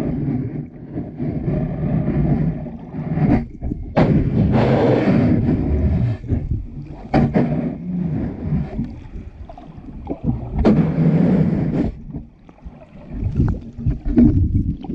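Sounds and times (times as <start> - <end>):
underwater wave surge: 1.5 - 14.9.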